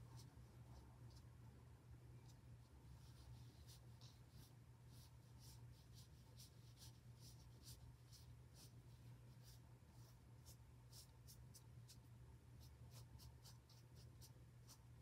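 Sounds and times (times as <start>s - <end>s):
low steady hum: 0.0s - 15.0s
ink brush swishing on paper: 2.2s - 14.9s.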